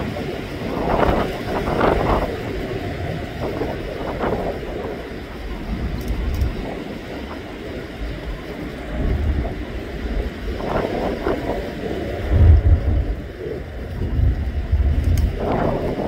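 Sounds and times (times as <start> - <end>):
distant jet engines roaring: 0.0 - 16.0
wind buffeting microphone: 0.0 - 16.0.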